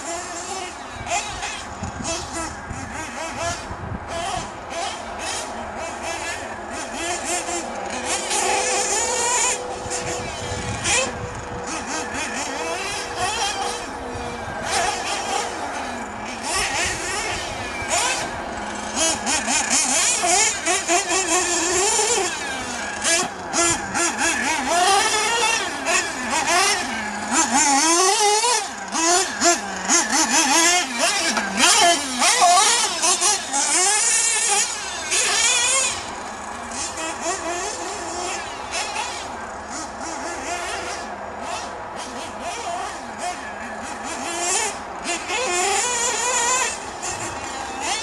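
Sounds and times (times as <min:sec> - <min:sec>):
small engine revving buzz: 0:00.0 - 0:48.0.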